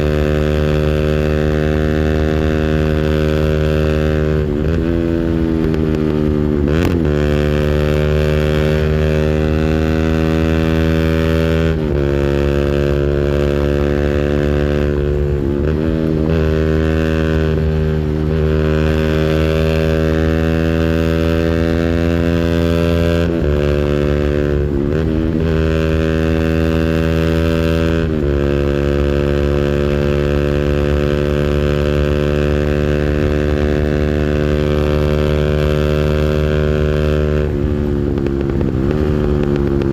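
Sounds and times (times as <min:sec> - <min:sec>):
engine revving at limiter: 0:00.0 - 0:39.9.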